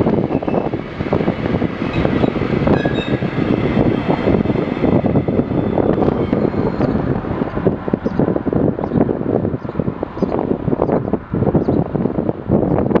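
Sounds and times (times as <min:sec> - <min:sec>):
freight train wheels rumbling on rail: 0:00.0 - 0:13.0
wind buffeting microphone: 0:00.0 - 0:13.0.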